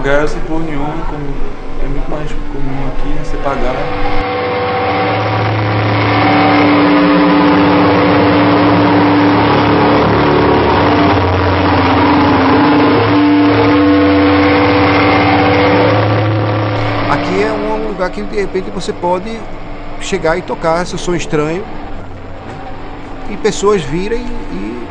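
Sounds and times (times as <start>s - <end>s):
electronic noise drone: 0.0s - 24.9s
low hum tones: 0.0s - 24.9s.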